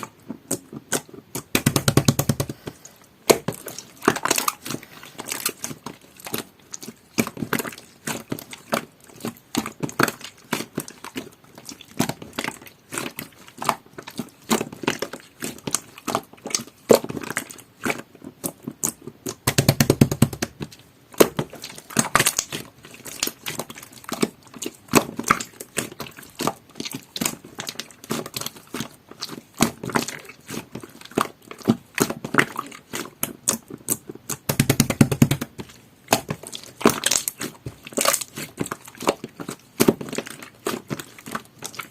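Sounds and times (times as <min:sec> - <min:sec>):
slime squishing by hand: 0:00.0 - 0:41.9.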